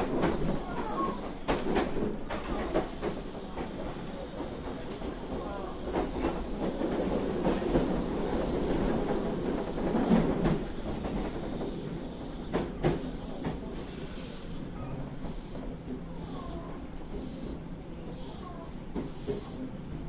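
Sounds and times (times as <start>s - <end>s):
subway train hissing rumble: 0.0s - 20.0s.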